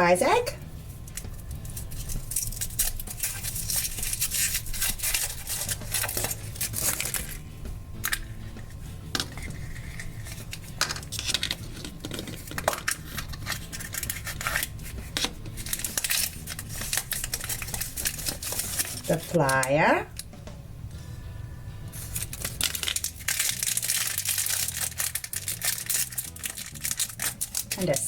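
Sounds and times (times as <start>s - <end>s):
foil wrapper crinkling: 1.1s - 7.4s, 9.3s - 19.7s, 22.0s - 28.0s.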